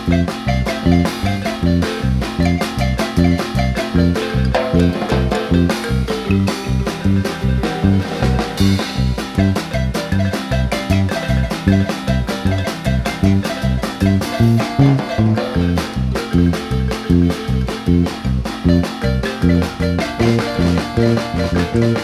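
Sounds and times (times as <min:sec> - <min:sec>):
marimba band playing dance tune: 0:00.0 - 0:22.0.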